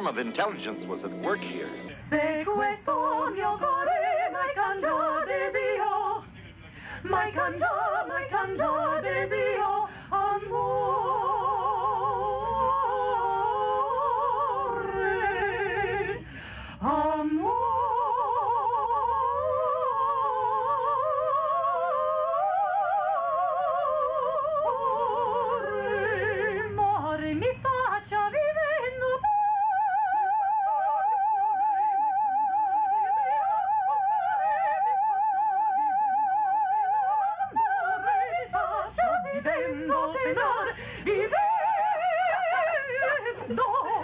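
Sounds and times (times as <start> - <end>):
women singing operatically: 1.1 - 6.2, 7.0 - 44.0.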